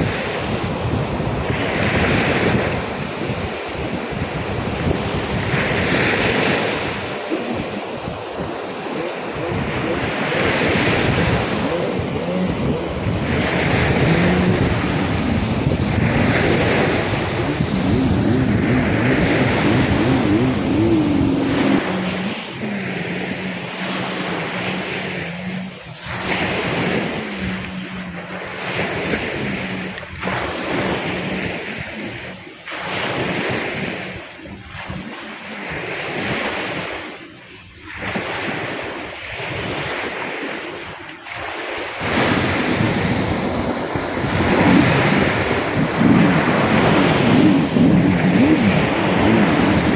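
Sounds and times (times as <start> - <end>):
wind buffeting microphone: 0.0 - 41.4, 42.0 - 49.9
surf breaking on beach: 0.0 - 49.9.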